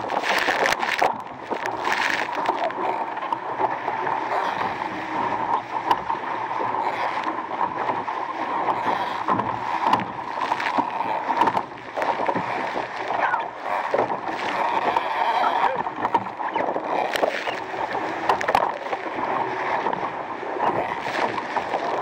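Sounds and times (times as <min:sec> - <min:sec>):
water rushing along a hull: 0:00.0 - 0:22.0.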